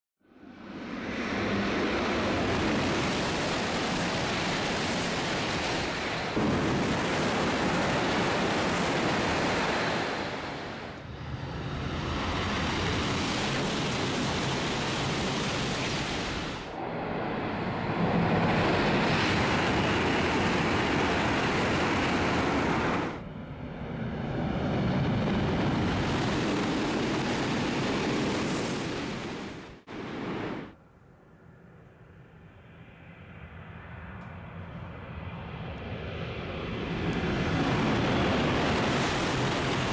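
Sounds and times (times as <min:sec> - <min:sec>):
bullet trains passing at speed: 0:00.4 - 0:30.8, 0:36.2 - 0:39.9.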